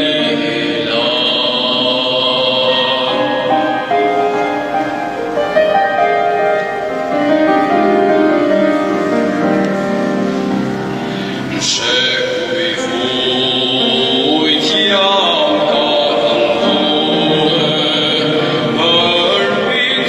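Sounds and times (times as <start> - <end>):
keyboard chords and melody: 0.0 - 20.0
person singing: 0.0 - 20.0.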